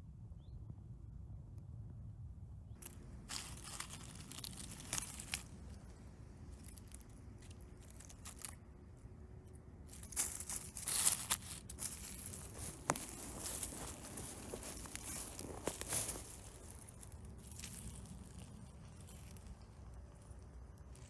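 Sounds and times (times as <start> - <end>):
dry leaves and twigs rustling: 2.8 - 21.0.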